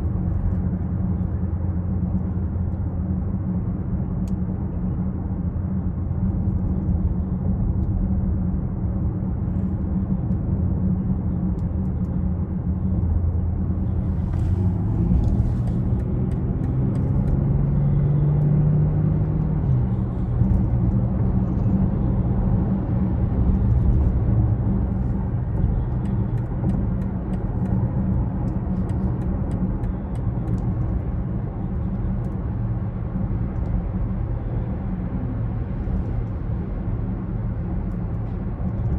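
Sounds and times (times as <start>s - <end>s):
car engine while driving: 0.0s - 38.9s
road noise: 0.0s - 38.9s.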